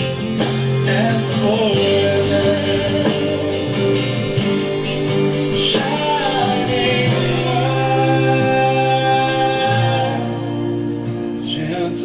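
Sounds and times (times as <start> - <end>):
hymn singing: 0.0 - 12.0
instrumental accompaniment: 0.0 - 12.0.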